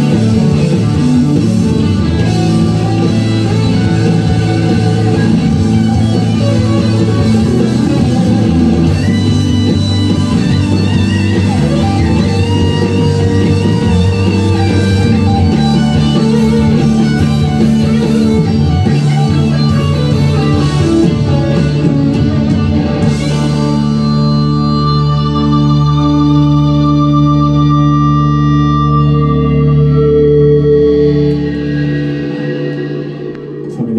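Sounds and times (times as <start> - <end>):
electric guitar: 0.0 - 33.9
rock band playing: 0.0 - 33.9.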